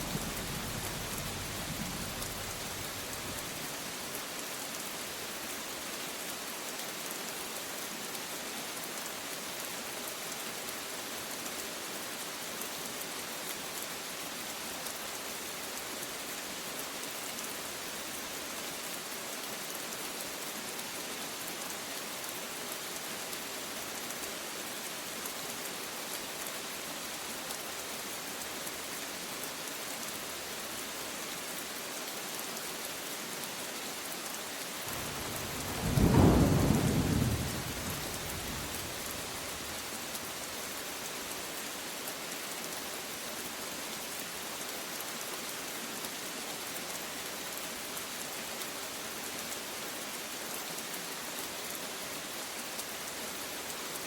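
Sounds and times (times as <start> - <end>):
rain falling on a surface: 0.0 - 54.0.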